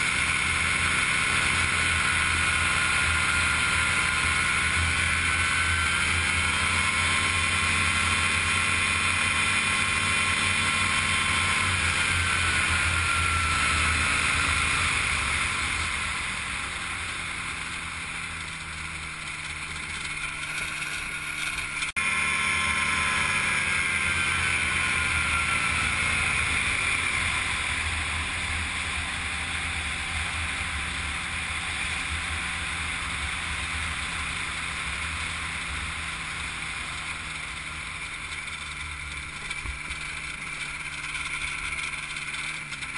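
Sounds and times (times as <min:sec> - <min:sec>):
gyroplane engine and propeller: 0:00.0 - 0:42.9.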